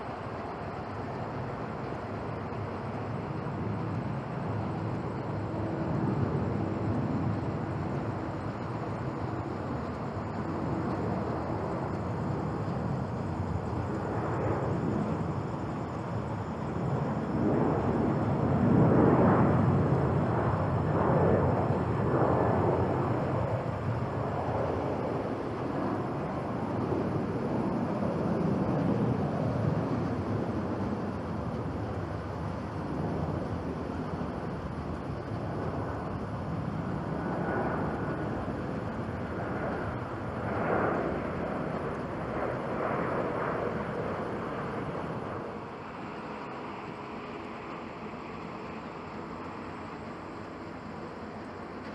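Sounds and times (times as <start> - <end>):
jet engine rumble: 0.0 - 51.9.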